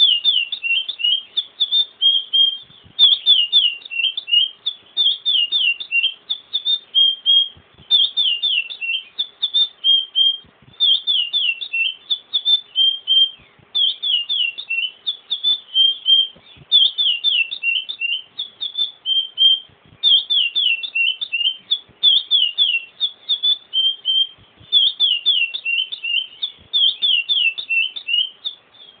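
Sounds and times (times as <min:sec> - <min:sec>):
finch singing whistled notes: 0:00.0 - 0:29.0.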